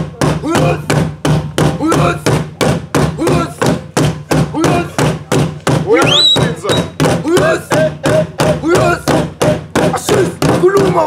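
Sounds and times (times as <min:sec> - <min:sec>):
drums struck in steady rhythm: 0:00.0 - 0:11.0.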